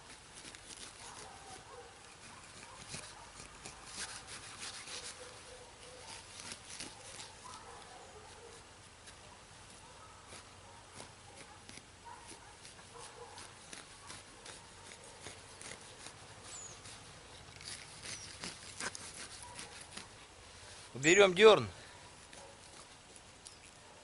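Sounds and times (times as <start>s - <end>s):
shovel scraping into soil: 0.0s - 21.2s.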